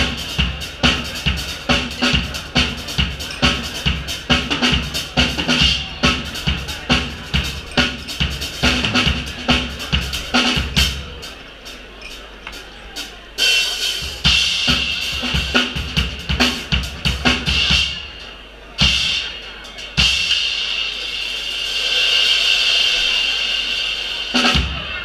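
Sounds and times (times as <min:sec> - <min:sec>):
drum kit beat: 0:00.0 - 0:23.1, 0:24.0 - 0:25.0
backing track: 0:00.0 - 0:25.0
cymbals crashing: 0:00.0 - 0:25.0.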